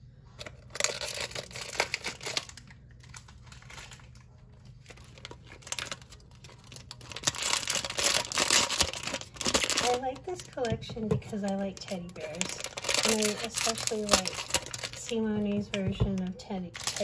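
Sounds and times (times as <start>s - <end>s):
foil wrapper crinkling and tearing: 0.4s - 10.7s, 11.3s - 17.0s.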